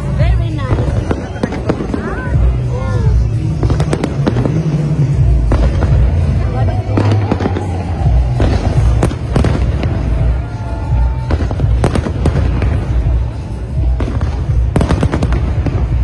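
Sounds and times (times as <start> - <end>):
deep rumble of bursting fireworks: 0.0 - 16.0
sharp firework bangs and crackles: 0.0 - 16.0.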